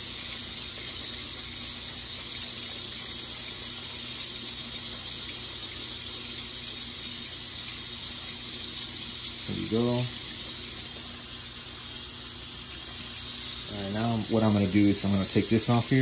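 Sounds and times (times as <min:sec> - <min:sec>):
faucet running into sink: 0:00.0 - 0:16.0.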